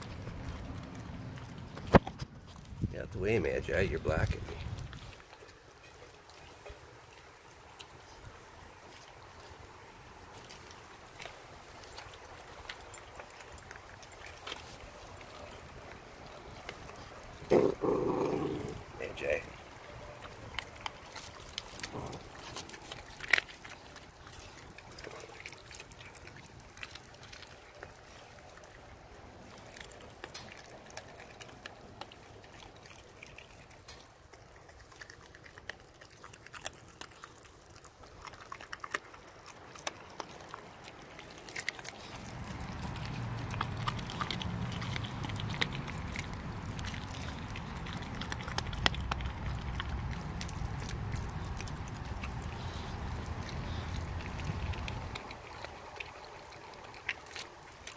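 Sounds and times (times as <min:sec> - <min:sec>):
puppies chewing fish: 0:00.0 - 0:57.9.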